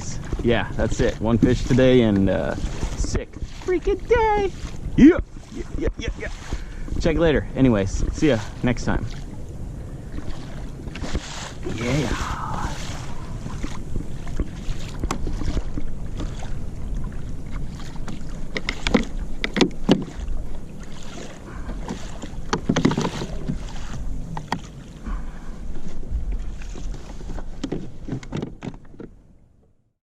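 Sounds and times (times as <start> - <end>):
water splashes: 0.0 - 29.1
wind and water rumble: 0.0 - 30.0
kayak knocks and clicks: 0.1 - 7.2, 10.1 - 11.8, 12.8 - 29.8.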